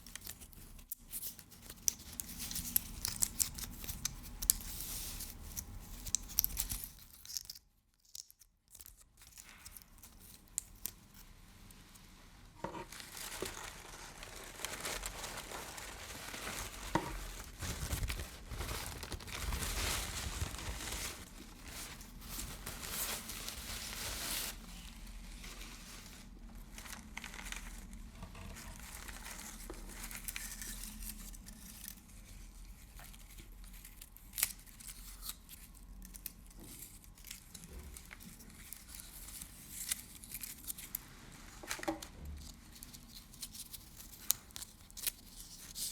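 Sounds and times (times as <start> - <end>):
close crinkling: 0.0 - 45.9.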